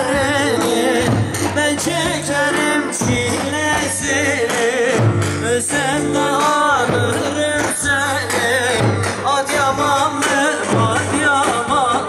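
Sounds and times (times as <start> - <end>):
live band music: 0.0 - 12.0
man singing: 0.0 - 12.0.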